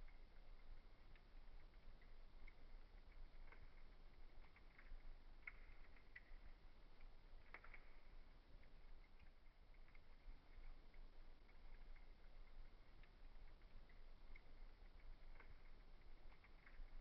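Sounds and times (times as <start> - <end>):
faint low hum: 0.0 - 17.0
wood fire crackling: 0.0 - 17.0.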